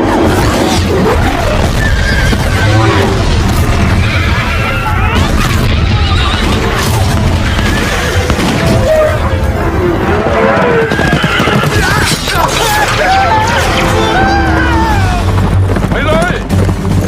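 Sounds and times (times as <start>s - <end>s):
film soundtrack music: 0.0s - 17.0s
rising and falling cries: 1.0s - 15.4s.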